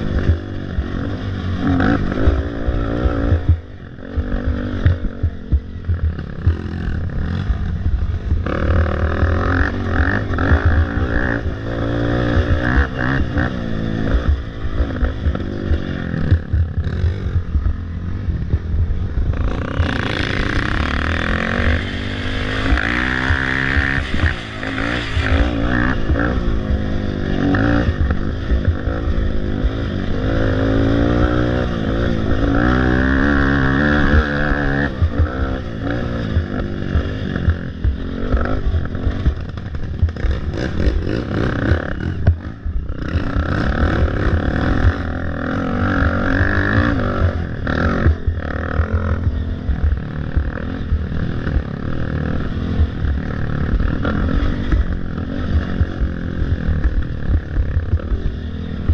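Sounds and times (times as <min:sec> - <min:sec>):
atv engine revving: 0:00.0 - 0:58.9.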